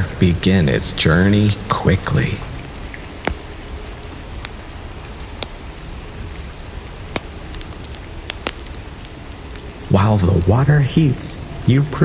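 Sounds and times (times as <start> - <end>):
sharp drip ticks: 0.0 - 9.9
steady rain: 0.0 - 12.0.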